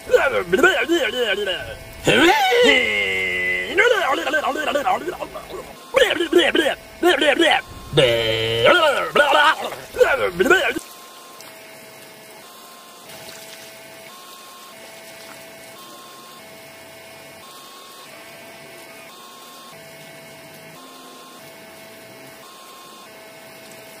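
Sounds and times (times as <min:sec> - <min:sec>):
small electric water pump running: 0:00.0 - 0:24.0.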